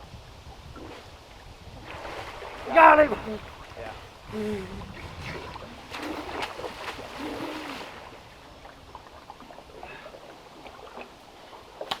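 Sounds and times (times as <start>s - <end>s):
river water splashing: 0.6s - 12.0s
water lapping: 0.6s - 12.0s.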